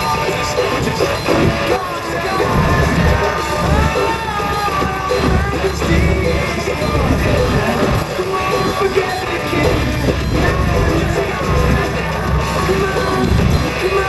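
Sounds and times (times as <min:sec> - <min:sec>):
song on radio: 0:00.0 - 0:14.0.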